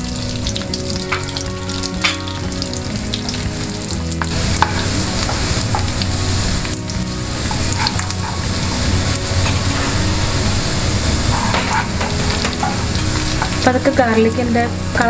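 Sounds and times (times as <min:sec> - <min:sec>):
garlic sizzling in butter: 0:00.0 - 0:15.0
spatula stirring in pan: 0:00.2 - 0:14.0.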